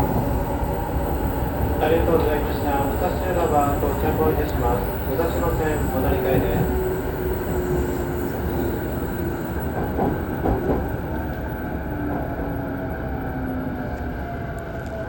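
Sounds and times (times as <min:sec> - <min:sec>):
wheel and rail rumble: 0:00.0 - 0:15.0.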